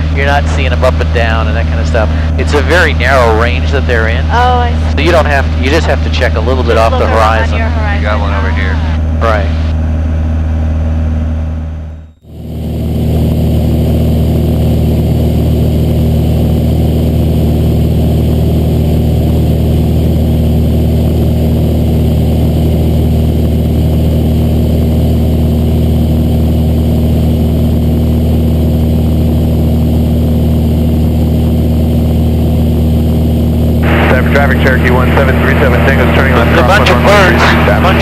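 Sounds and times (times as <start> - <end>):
airplane engine and propeller drone: 0.0 - 38.0.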